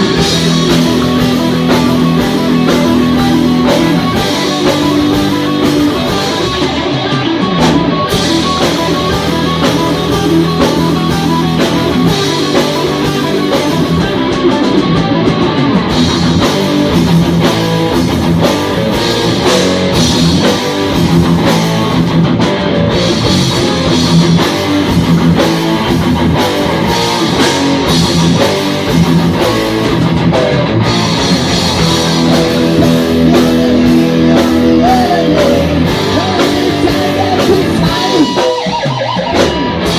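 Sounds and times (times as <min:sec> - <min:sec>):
live heavy metal band: 0:00.0 - 0:39.9.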